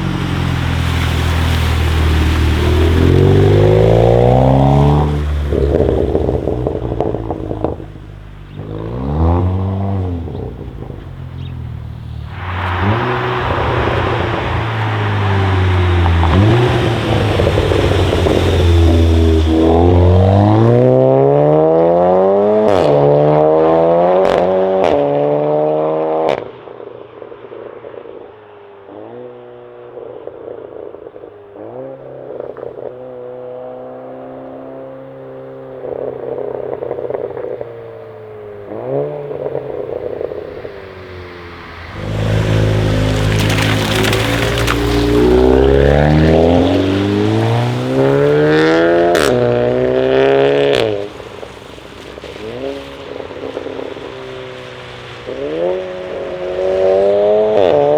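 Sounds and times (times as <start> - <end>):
exhaust cracks: 0.0 - 23.0, 30.4 - 57.9
car engine accelerating hard: 0.0 - 26.6, 28.8 - 57.9.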